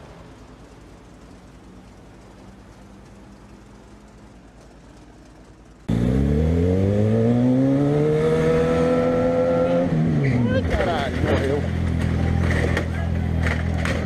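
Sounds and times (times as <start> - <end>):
vehicle engine accelerating: 0.0 - 14.0.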